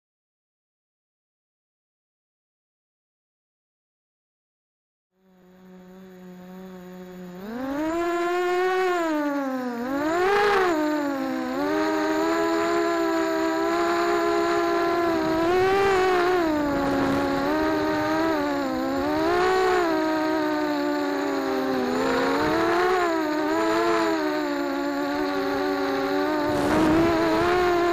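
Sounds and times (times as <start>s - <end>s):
drone motors whining: 5.2s - 27.9s.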